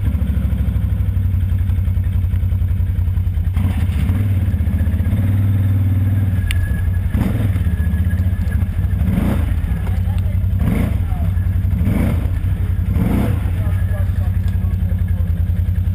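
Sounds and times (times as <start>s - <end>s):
engine running under throttle: 0.0s - 15.9s.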